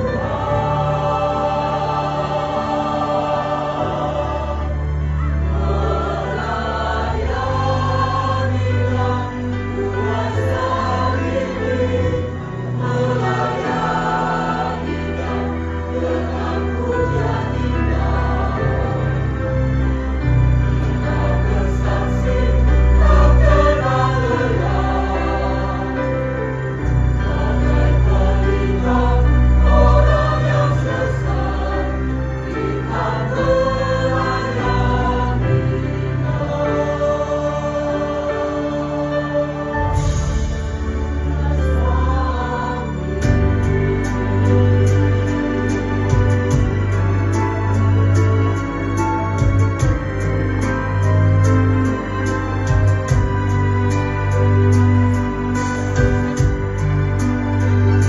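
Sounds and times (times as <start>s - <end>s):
church choir singing: 0.0s - 58.0s
low accompaniment: 0.0s - 58.0s.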